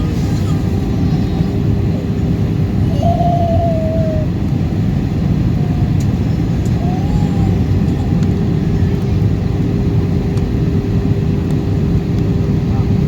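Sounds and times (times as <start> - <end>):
aircraft cabin engine rumble: 0.0 - 13.0
steady hum: 0.0 - 13.0.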